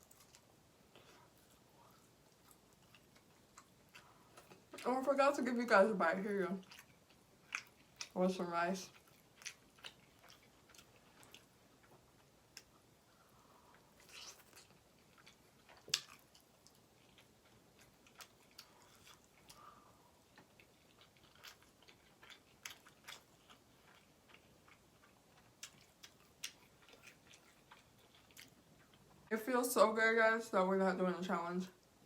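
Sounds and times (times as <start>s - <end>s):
person chewing food: 0.0s - 4.8s, 6.6s - 8.2s, 8.9s - 29.3s.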